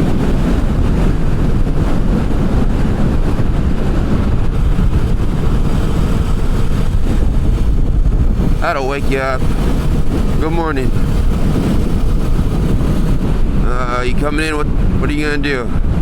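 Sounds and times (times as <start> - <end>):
motorcycle engine cruising: 0.0 - 16.0
road noise: 0.0 - 16.0
wind rushing on microphone: 0.0 - 16.0.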